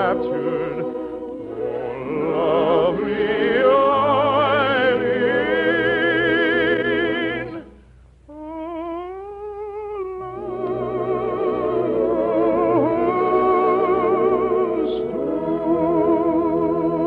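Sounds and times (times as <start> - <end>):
operatic singing with vibrato: 0.0 - 17.0.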